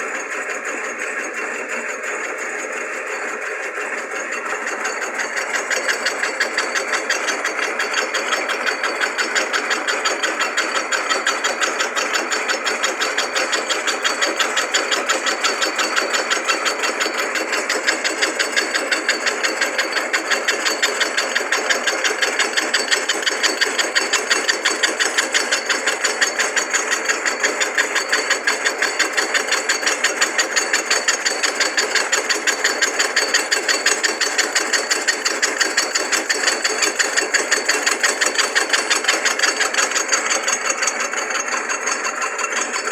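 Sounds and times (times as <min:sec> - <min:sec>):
cutter ticking on metal: 0:00.0 - 0:42.9
milling motor running: 0:00.0 - 0:42.9.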